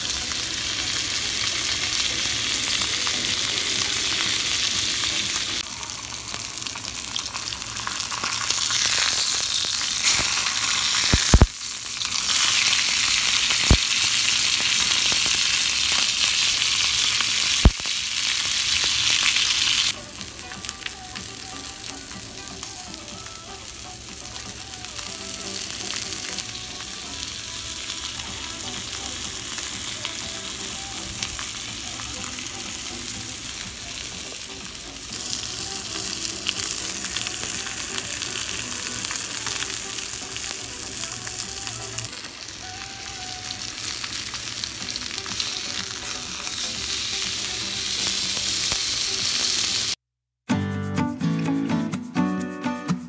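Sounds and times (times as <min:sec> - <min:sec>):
steak sizzling in oil: 0:00.0 - 0:50.0.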